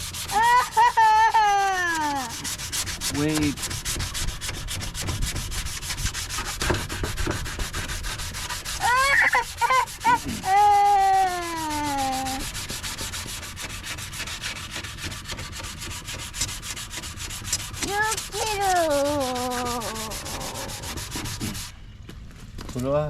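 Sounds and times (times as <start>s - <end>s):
sandpaper rubbing on plastic: 0.0s - 21.7s.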